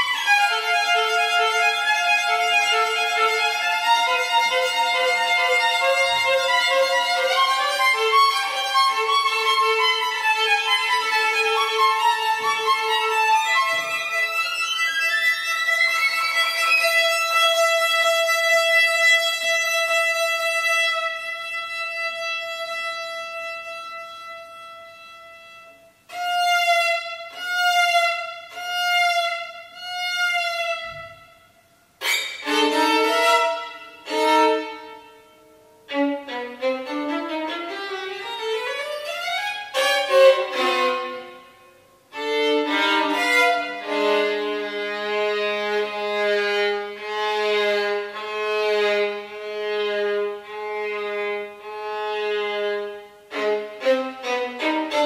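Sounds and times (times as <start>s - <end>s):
solo violin playing: 0.0s - 55.0s.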